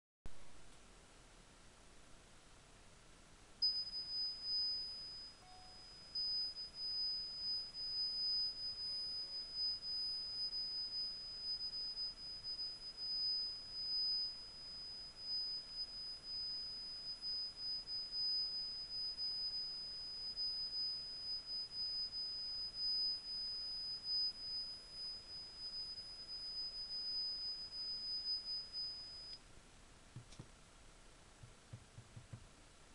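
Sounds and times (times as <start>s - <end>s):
high-pitched sine test tone: 3.6s - 29.4s, 31.4s - 32.4s.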